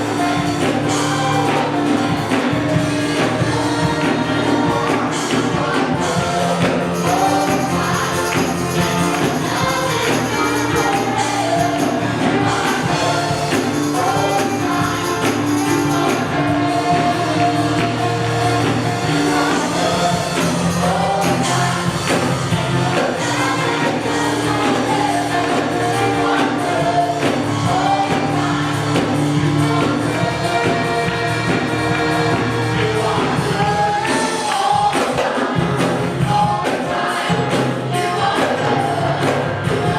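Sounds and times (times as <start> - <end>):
gospel worship music: 0.0 - 39.9.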